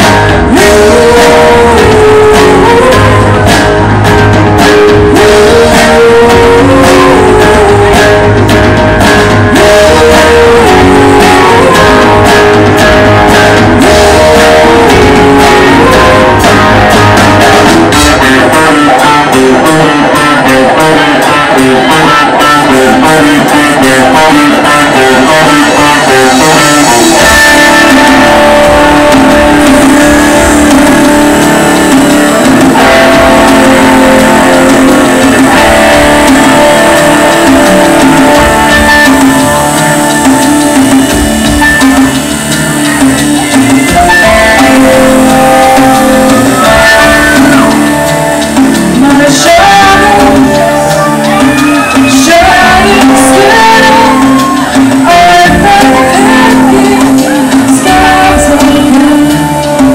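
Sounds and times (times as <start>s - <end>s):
deep bass: 0.0s - 19.9s, 25.0s - 59.9s
drums: 0.0s - 59.9s
electric guitar lines: 0.0s - 59.9s.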